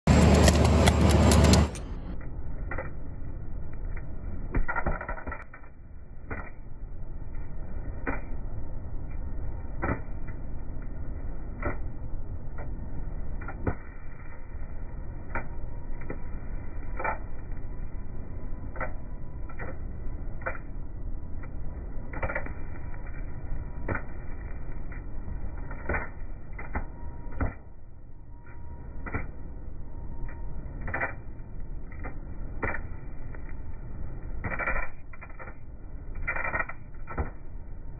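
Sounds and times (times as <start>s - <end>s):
welding machine hum and crackle: 0.0s - 37.9s
sharp cracks of sparks: 0.1s - 37.9s.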